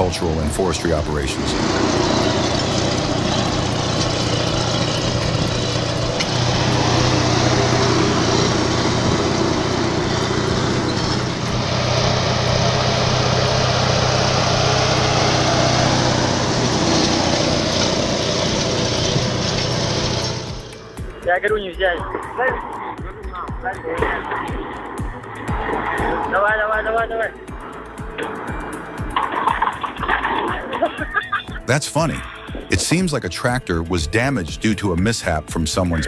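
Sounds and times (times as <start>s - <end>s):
tractor diesel engine running: 0.0s - 22.4s, 24.1s - 36.0s.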